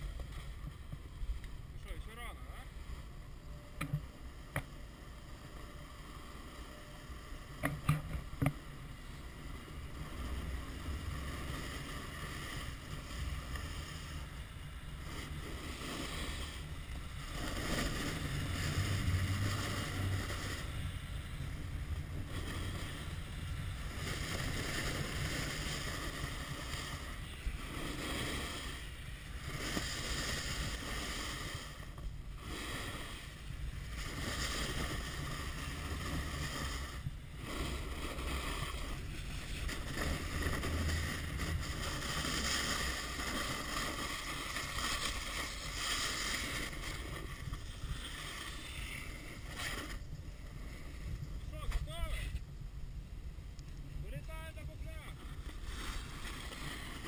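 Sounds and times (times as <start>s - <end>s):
snowboard scraping over snow: 0.0s - 57.0s
wind on microphone: 9.8s - 57.0s.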